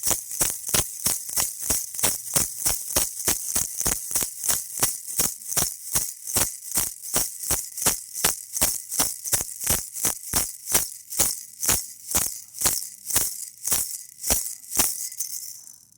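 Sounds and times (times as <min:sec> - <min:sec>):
baby rattle shaking: 0:00.0 - 0:15.9.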